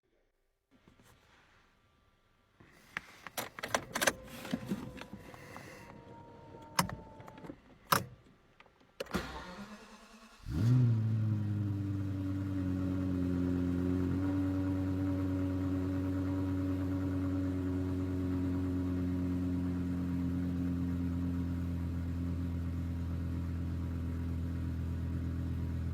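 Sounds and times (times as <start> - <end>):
car engine starting and idling: 2.8 - 25.9.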